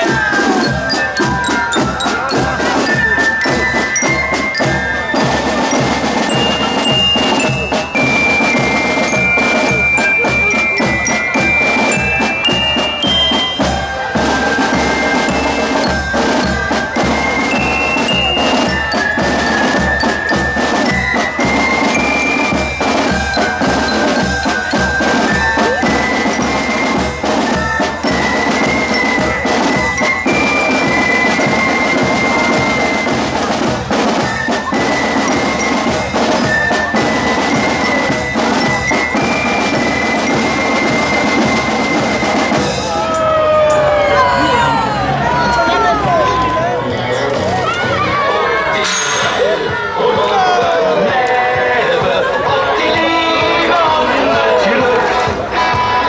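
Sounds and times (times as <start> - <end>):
bass drum marching beat: 0.0 - 48.7
bell lyra melody: 0.0 - 50.7
snare drums: 0.0 - 56.0.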